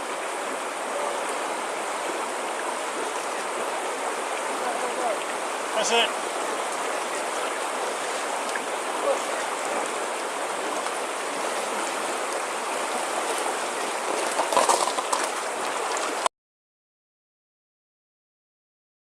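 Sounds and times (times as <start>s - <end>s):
river water rushing: 0.0s - 16.3s
water splashing: 0.0s - 16.3s.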